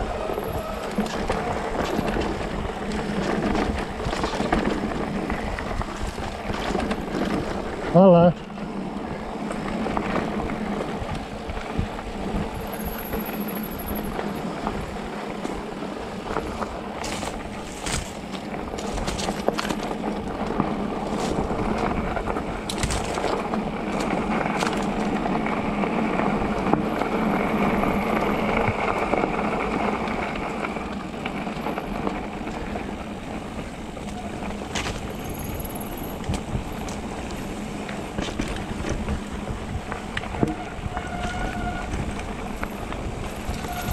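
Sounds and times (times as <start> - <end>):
bike rattling over bumps: 0.0 - 43.9
tyre and trail noise: 0.0 - 43.9.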